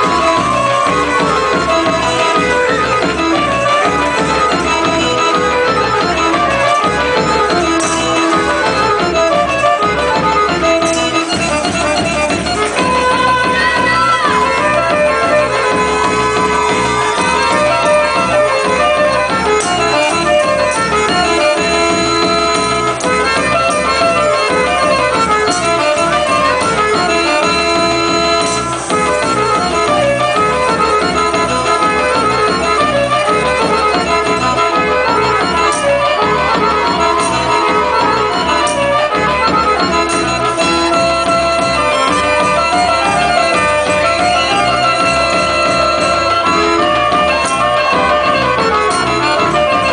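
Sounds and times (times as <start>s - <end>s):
folk dance music: 0.0s - 49.9s.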